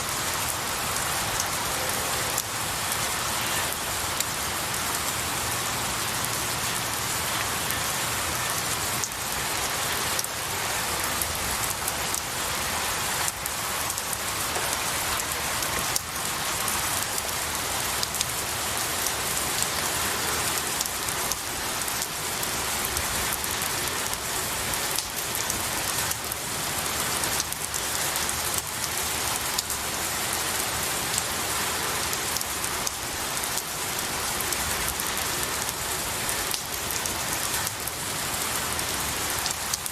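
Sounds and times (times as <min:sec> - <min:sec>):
rain on pine needles: 0:00.0 - 0:39.9.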